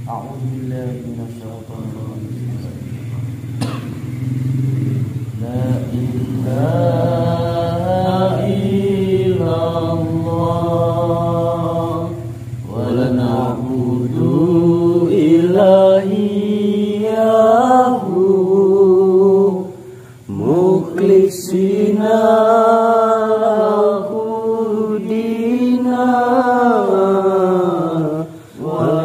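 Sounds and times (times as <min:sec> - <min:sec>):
person chanting: 0:00.0 - 0:03.4, 0:04.8 - 0:29.0.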